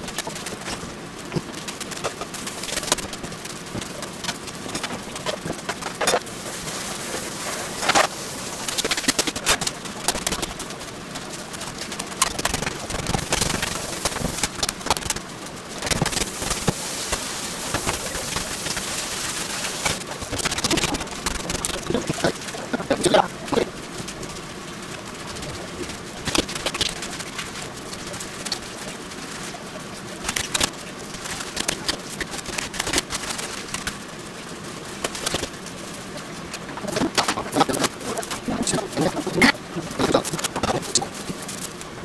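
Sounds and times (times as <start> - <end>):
plastic gloves crinkling: 0.0 - 42.0.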